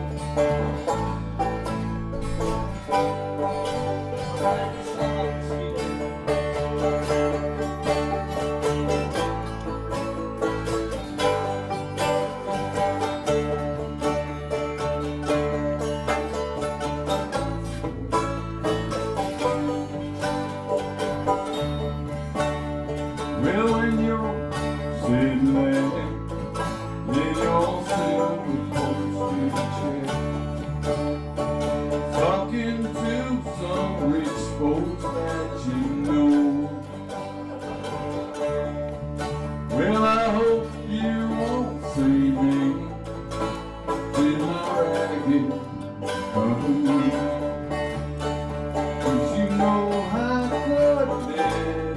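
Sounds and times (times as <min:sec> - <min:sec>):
acoustic guitar: 0:00.0 - 0:51.9
banjo: 0:00.0 - 0:51.9
electric bass: 0:00.0 - 0:51.9
wavering lead melody: 0:00.0 - 0:51.9.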